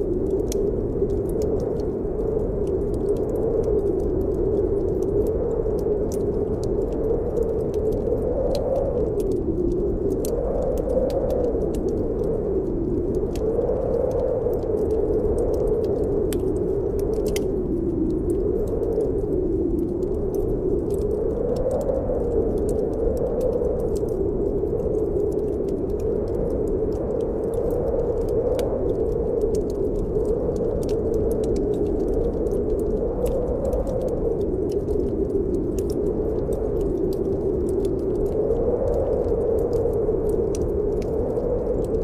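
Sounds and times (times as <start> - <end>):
wind blowing: 0.0 - 42.0
wood fire crackling: 0.0 - 42.0.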